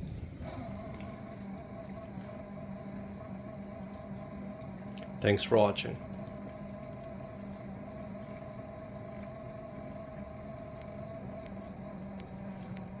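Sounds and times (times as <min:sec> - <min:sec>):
dishwasher pump humming and grinding: 0:00.0 - 0:13.0.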